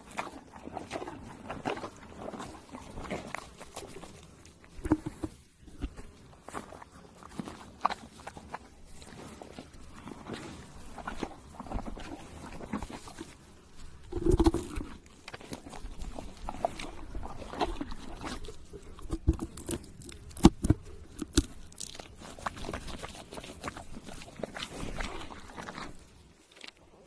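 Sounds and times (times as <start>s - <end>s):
crunching and chewing: 0.0s - 27.0s.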